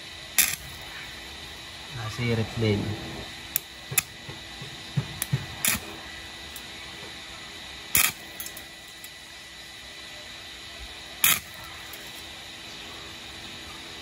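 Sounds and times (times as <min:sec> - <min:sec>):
faint high whine: 0:00.0 - 0:14.0
welding arc crackling: 0:00.0 - 0:14.0.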